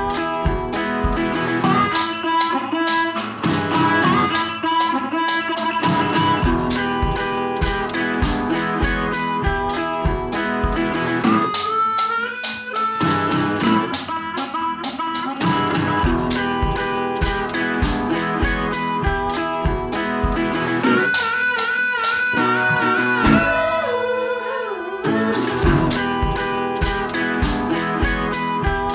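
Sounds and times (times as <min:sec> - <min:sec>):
guitar-led music with steady beat: 0:00.0 - 0:28.9.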